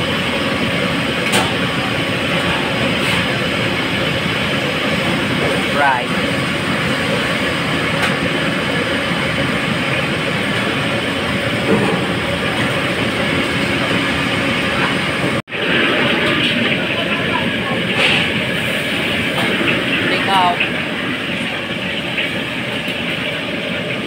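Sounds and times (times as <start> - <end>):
loud background din: 0.0 - 22.9.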